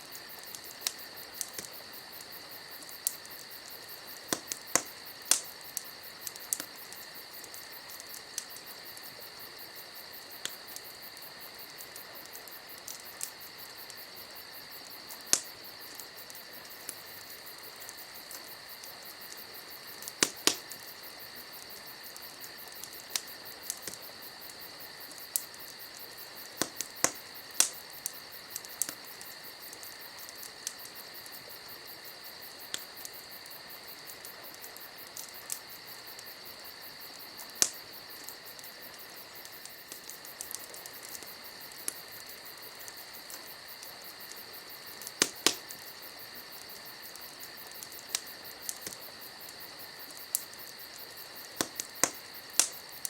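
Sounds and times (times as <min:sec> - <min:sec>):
campfire crackling and popping: 0:00.0 - 0:53.0
crickets chirping: 0:00.0 - 0:53.0.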